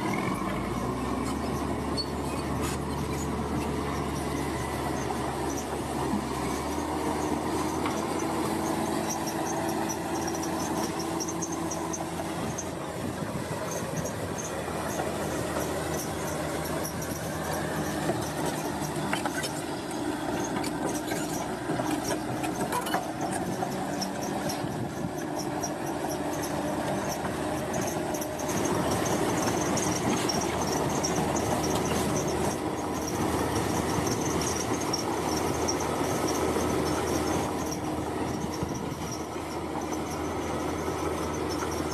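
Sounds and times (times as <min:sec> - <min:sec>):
bulldozer diesel engine: 0:00.0 - 0:41.9
steel tracks squealing and clanking: 0:00.0 - 0:41.9.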